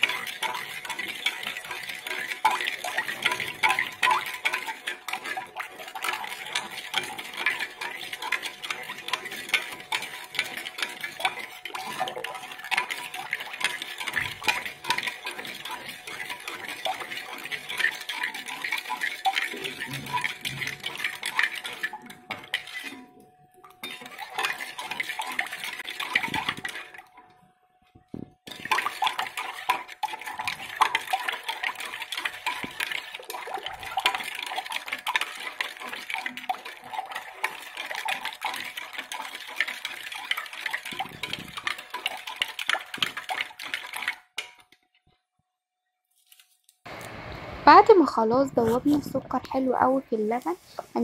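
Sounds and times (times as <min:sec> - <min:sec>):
spoon stirring in metal pot: 0:00.0 - 0:44.9.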